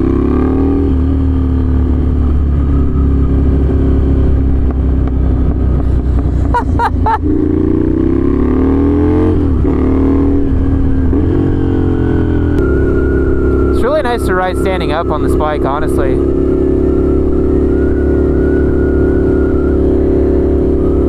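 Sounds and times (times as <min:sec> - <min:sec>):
loud motorcycle exhaust revving: 0:00.0 - 0:21.0.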